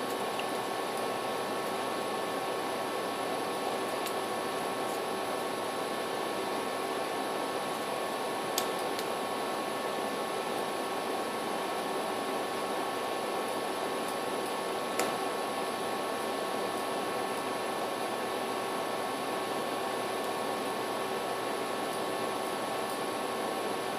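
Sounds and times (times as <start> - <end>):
faint constant hum: 0.0 - 23.9
room noise hiss: 0.0 - 23.9.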